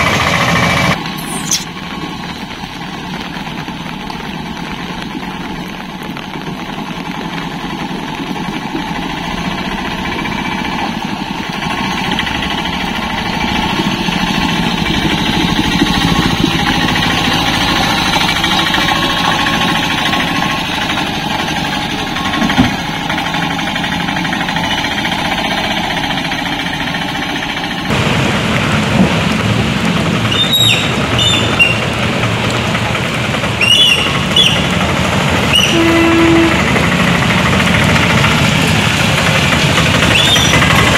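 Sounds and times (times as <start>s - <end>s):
autorickshaw engine running: 0.0s - 40.9s.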